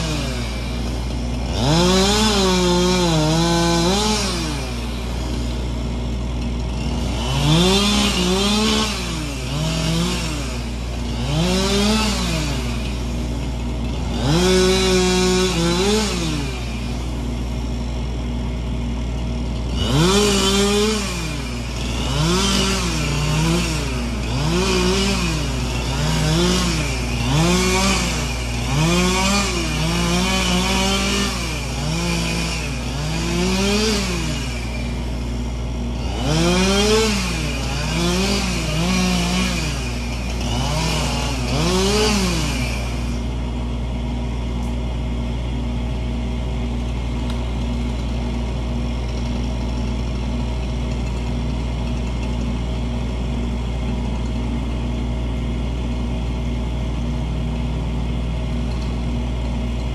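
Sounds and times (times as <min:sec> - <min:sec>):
chainsaw revving and idling: 0:00.0 - 0:59.9.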